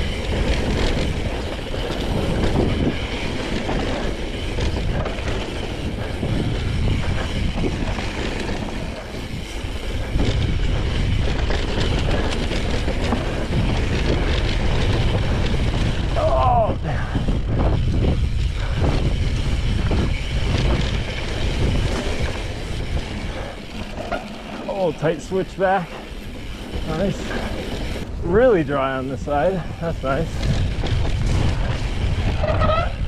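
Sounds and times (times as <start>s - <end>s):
bike rattling over rough ground: 0.0s - 33.0s
wind rushing over microphone: 0.0s - 33.0s.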